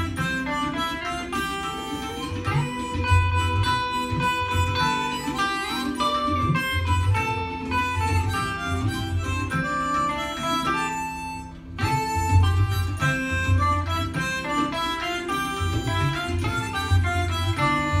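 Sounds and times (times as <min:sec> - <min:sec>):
electric guitar accompaniment: 0:00.0 - 0:18.0
harmonica melody: 0:00.0 - 0:18.0
low bass notes: 0:00.0 - 0:18.0.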